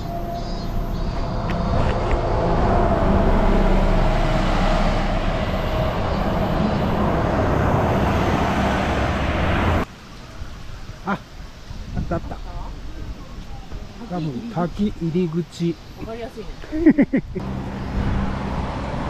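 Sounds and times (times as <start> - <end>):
road traffic passing: 0.0 - 10.4, 12.6 - 19.0.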